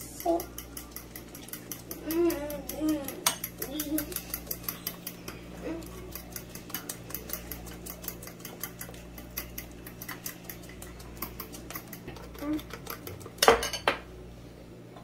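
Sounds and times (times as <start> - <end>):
fork ticking against glass bowl: 0.0 - 13.1.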